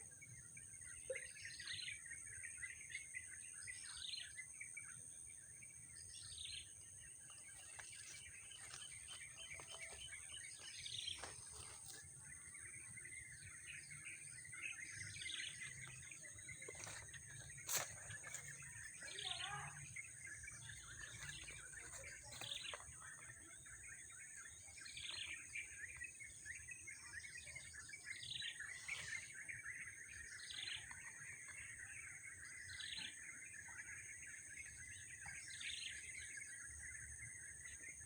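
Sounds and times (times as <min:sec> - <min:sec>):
birds twittering: 0:00.0 - 0:38.0.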